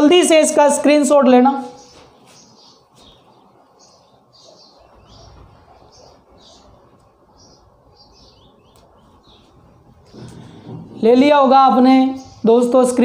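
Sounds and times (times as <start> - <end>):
small bird chirping: 1.6 - 13.0.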